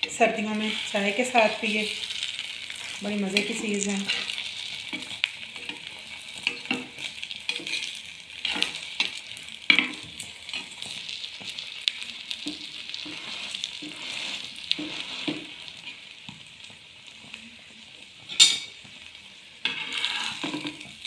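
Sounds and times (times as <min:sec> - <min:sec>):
bread sizzling in oil: 0:00.0 - 0:21.0.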